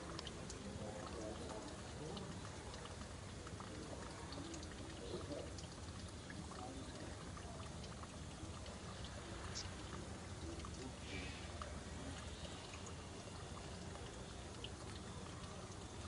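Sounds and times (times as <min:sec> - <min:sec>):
faint ticks and clicks: 0:00.0 - 0:16.0
rushing water: 0:00.0 - 0:16.0.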